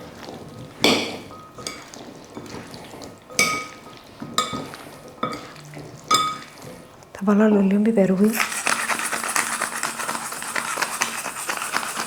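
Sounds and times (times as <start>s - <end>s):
soft mixing sounds: 0.0s - 12.0s.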